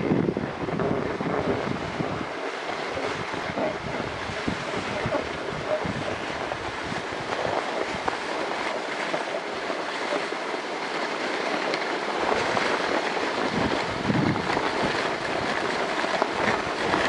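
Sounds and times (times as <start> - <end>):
wind buffeting microphone: 0.0 - 17.0
sled runners scraping on snow: 0.8 - 17.0.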